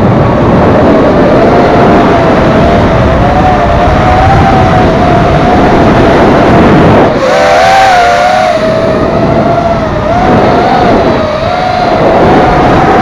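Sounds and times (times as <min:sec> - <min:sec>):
heavy wind rush: 0:00.0 - 0:13.0
quadcopter motors whining: 0:00.0 - 0:13.0.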